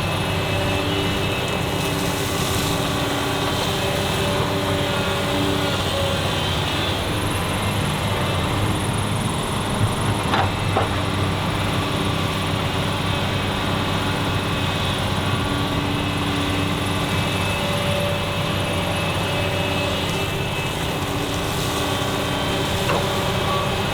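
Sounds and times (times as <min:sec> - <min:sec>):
excavator diesel engine: 0:00.0 - 0:23.9.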